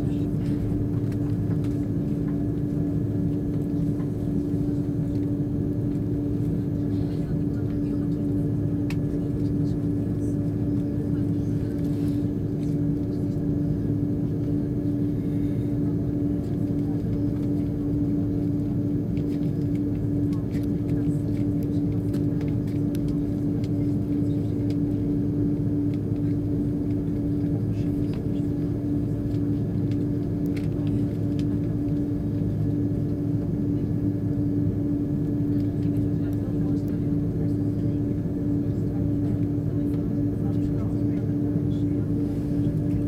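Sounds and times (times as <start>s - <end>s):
jet engines humming in cabin: 0.0s - 43.0s.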